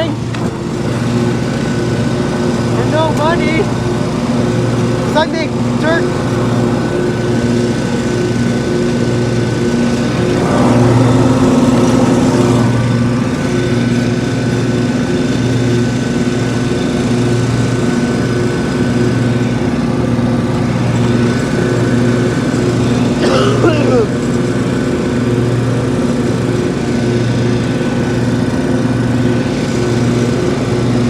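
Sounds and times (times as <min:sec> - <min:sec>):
lawn mower engine running: 0:00.0 - 0:31.0.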